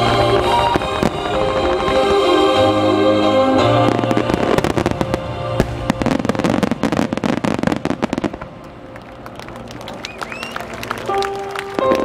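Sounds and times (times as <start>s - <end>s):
fireworks crackling and popping: 0.0s - 2.9s, 3.6s - 12.0s
music: 0.0s - 12.0s.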